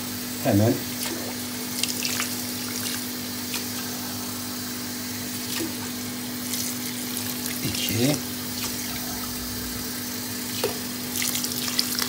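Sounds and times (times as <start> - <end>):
water pouring onto fruit: 0.8 - 12.0.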